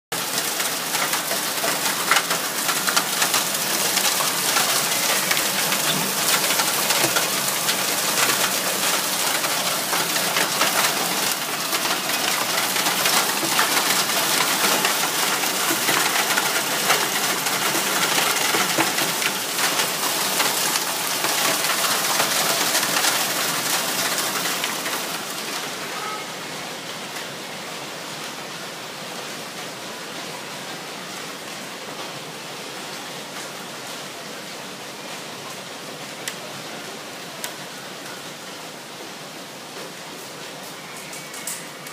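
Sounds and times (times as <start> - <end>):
hail and heavy rain on a window: 0.2 - 41.9.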